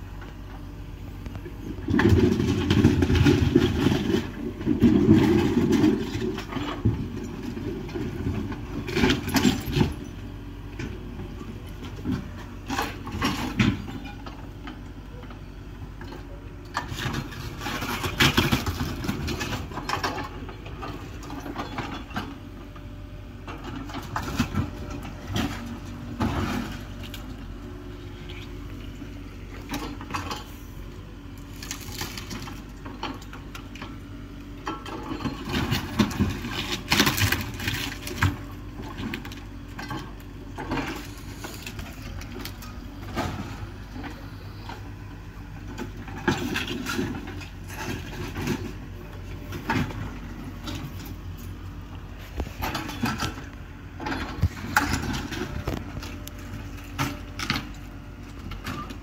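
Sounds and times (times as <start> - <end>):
excavator diesel engine working: 0.0 - 59.0.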